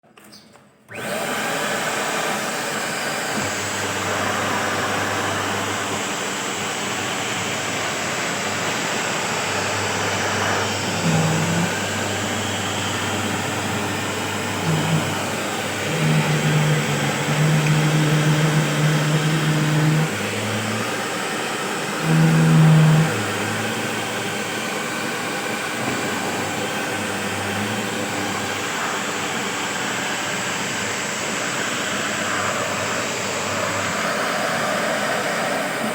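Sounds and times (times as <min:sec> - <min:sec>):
motor hum: 0:00.9 - 0:35.9
sweeper machine rushing noise: 0:00.9 - 0:35.9.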